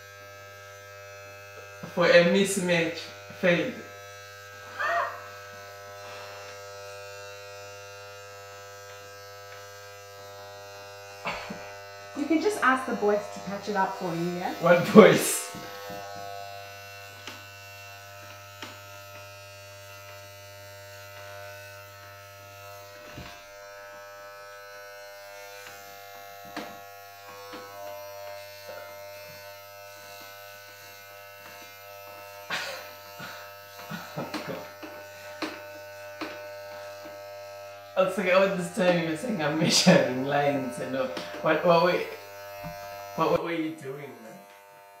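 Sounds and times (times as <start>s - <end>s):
electric hair clippers buzzing: 0.0s - 45.0s.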